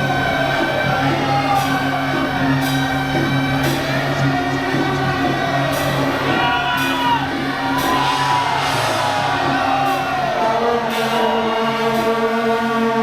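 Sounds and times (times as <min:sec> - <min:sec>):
sharp cymbal-like crashes: 0:00.0 - 0:12.8
low drone: 0:00.0 - 0:13.0
sliding melody: 0:00.0 - 0:13.0.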